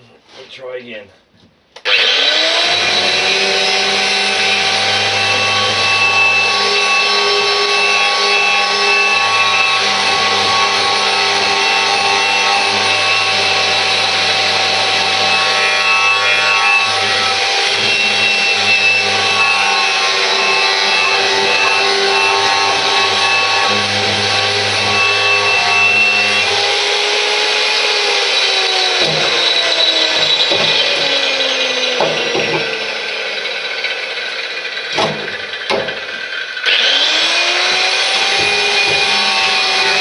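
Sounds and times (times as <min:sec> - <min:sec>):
power tool motor whine: 0:01.8 - 0:40.0.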